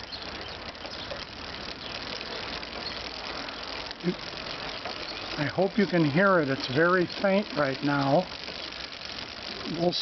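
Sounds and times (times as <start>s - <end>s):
bike wheel whirring: 0.0s - 10.0s.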